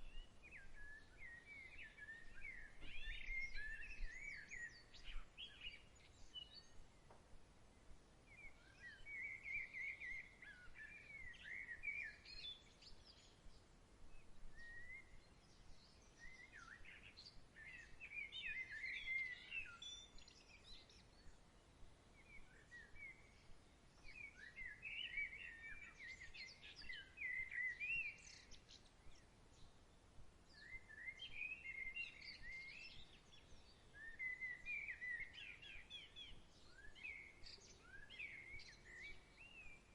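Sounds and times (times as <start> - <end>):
soft outdoor hiss: 0.0 - 39.9
songbirds chirping: 0.0 - 39.9.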